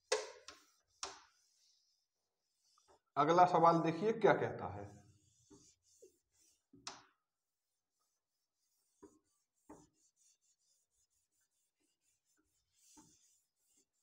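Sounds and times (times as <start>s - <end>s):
board duster rubbing whiteboard: 0.0s - 3.7s, 4.9s - 14.0s.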